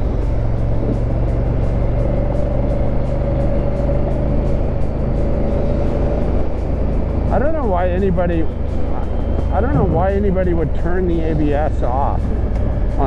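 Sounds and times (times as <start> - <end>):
motorcycle engine cruising: 0.0 - 13.0
wind rush: 0.0 - 13.0.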